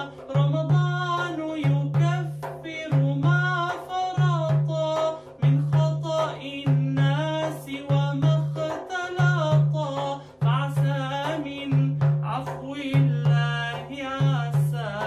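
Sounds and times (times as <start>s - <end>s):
frame drum: 0.0s - 15.0s
man singing: 0.0s - 15.0s.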